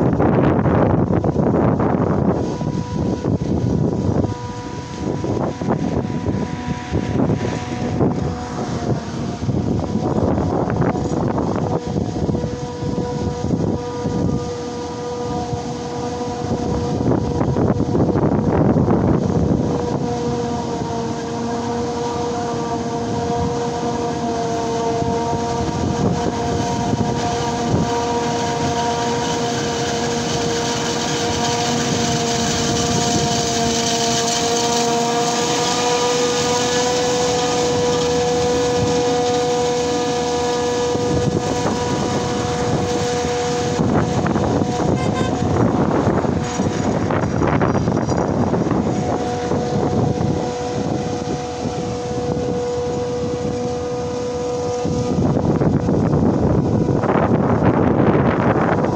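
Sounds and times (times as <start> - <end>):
engine and machinery rumble: 0.0 - 58.9
forage harvester whining: 0.0 - 58.9
wind on microphone: 0.0 - 58.9.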